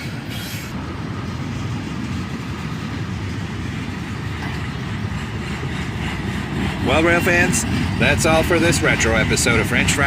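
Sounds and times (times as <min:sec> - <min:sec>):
freight train rolling on rails: 0:00.0 - 0:10.0.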